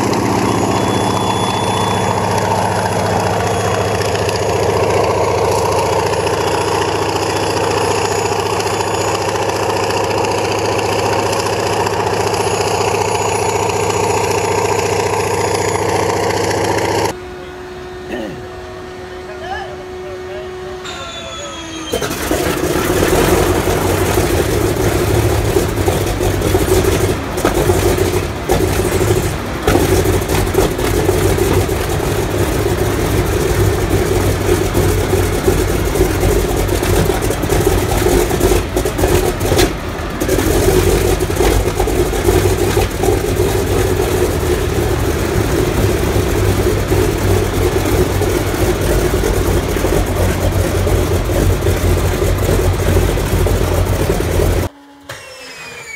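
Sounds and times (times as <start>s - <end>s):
radial aircraft engine starting: 0.0s - 55.9s.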